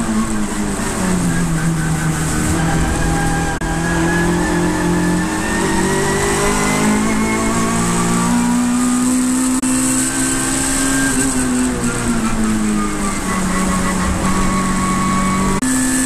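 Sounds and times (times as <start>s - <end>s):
racing car engine from inside: 0.0s - 16.0s.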